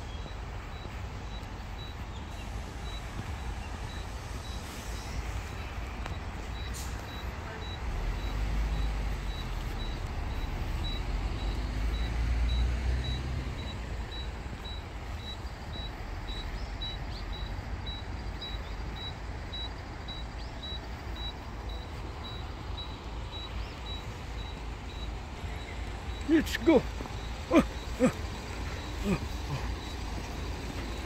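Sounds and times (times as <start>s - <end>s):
road traffic rumble: 0.0s - 31.0s
faint high beep: 0.1s - 30.3s
vehicle passing: 1.8s - 31.0s.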